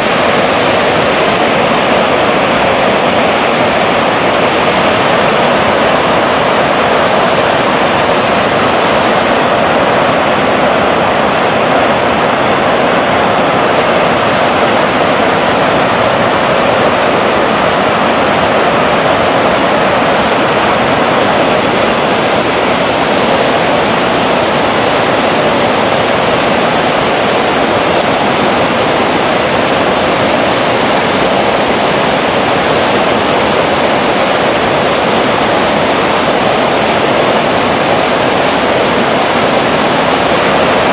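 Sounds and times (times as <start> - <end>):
river rapids rushing over rocks: 0.0 - 40.9.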